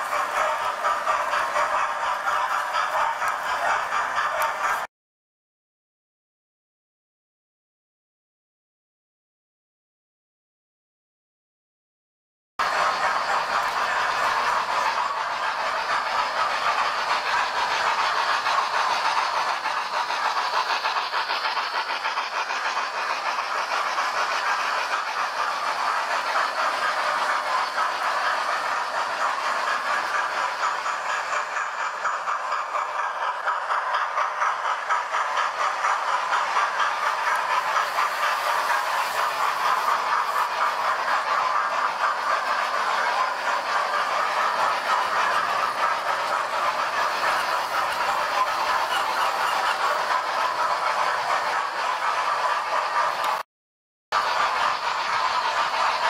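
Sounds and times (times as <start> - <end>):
model train motors whirring: 0.0 - 4.9, 12.6 - 53.4, 54.2 - 56.0
wheels rattling over rails: 0.0 - 4.9, 12.6 - 53.4, 54.2 - 56.0.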